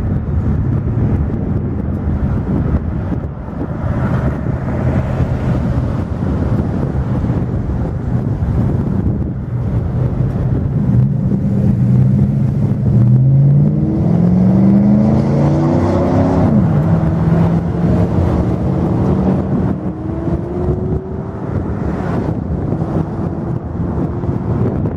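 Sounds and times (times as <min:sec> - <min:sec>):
steady rumble: 0:00.0 - 0:24.9
vehicle engine accelerating: 0:00.0 - 0:24.9
wind on microphone: 0:00.0 - 0:24.9.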